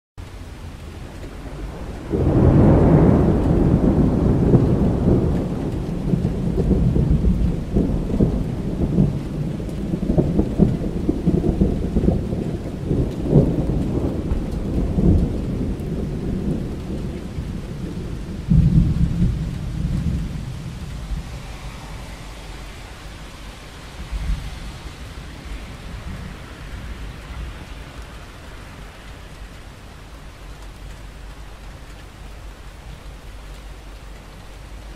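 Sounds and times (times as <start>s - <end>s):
steady rain hiss: 0.2s - 34.9s
rolling thunder: 1.0s - 30.8s.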